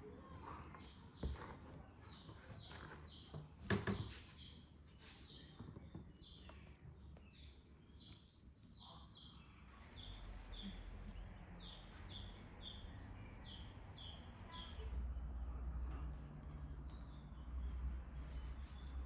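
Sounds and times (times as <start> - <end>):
small bird chirping: 2.0 - 19.0.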